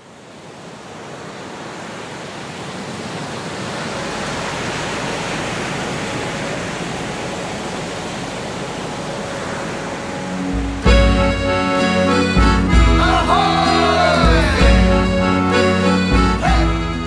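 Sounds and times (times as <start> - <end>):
sea waves washing: 0.0 - 17.0.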